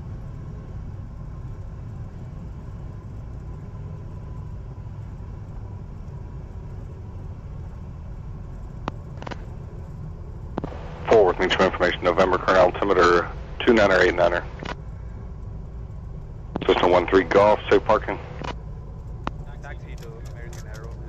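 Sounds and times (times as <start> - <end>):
aircraft engine idling: 0.0 - 21.0.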